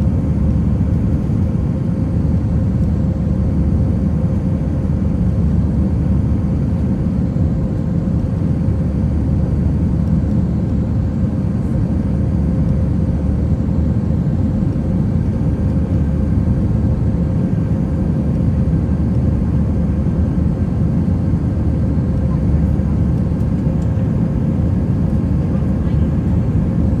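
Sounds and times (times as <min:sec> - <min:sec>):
constant hum: 0:00.0 - 0:27.0
jet engines droning in cabin: 0:00.0 - 0:27.0.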